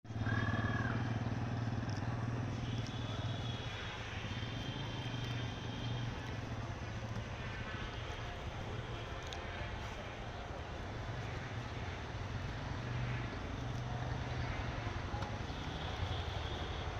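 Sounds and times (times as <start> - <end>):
vehicle engine humming: 0.1 - 16.9.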